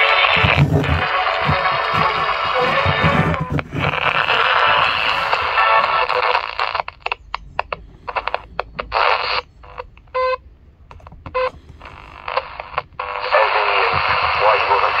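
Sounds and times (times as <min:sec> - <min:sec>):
radio static: 0:00.0 - 0:15.0
radio station playing: 0:00.0 - 0:15.0.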